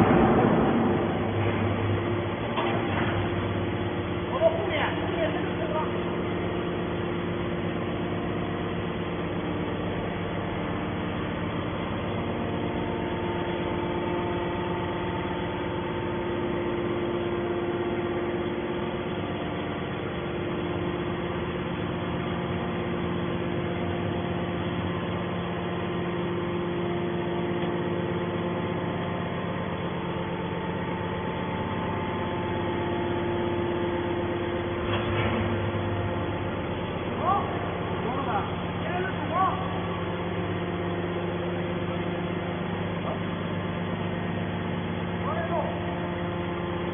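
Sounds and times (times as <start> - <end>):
baler engine running: 0.0 - 46.9.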